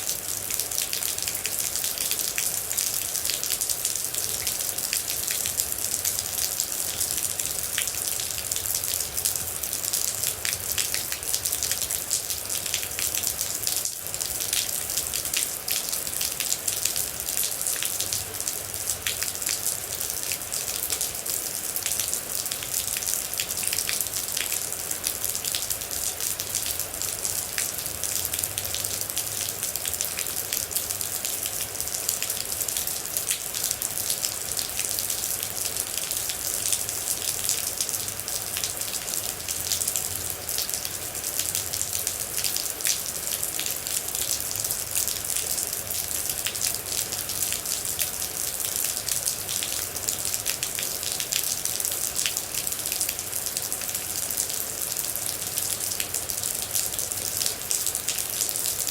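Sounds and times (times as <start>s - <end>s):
rain drops ticking on surface: 0.0s - 58.9s.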